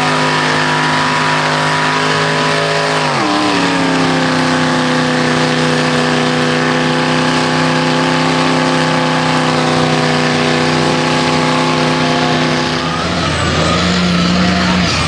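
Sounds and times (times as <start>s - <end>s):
tires churning through mud: 0.0s - 15.0s
truck engine revving high: 0.0s - 15.0s.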